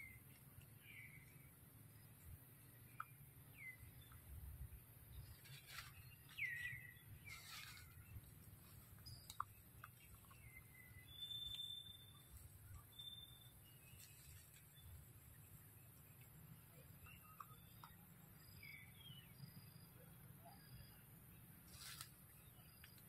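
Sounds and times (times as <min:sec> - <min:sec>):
faint forest ambience: 0:00.0 - 0:23.0.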